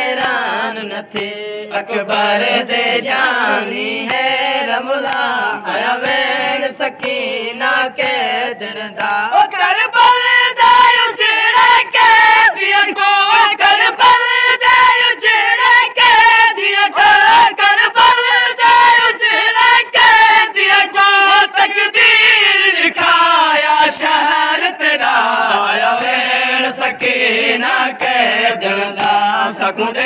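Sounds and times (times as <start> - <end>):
voices chanting a mourning lament: 0.0 - 30.0.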